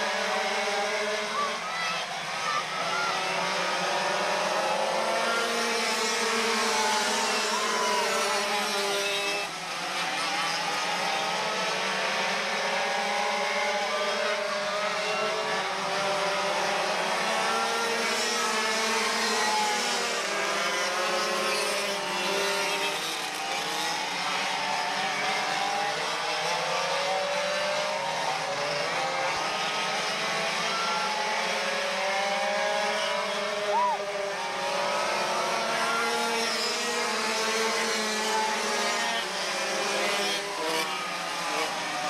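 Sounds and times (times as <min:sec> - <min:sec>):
go-kart engines whining: 0:00.0 - 0:42.0.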